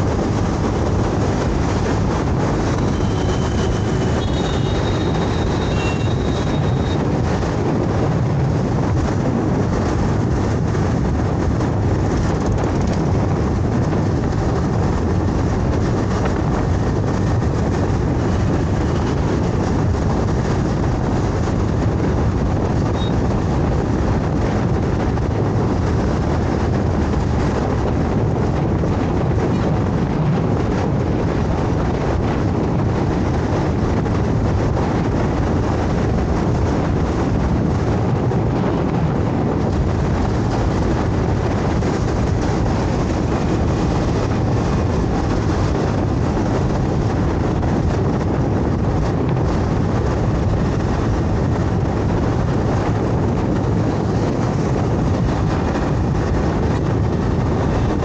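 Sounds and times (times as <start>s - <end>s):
scooter engine tyre and wind noise: 0.0s - 58.0s.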